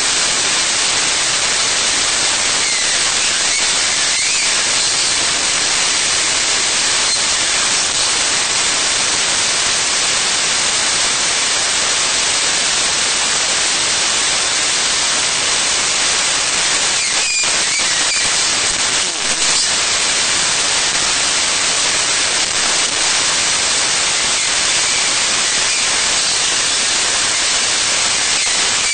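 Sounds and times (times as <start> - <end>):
static hiss: 0.0 - 28.9.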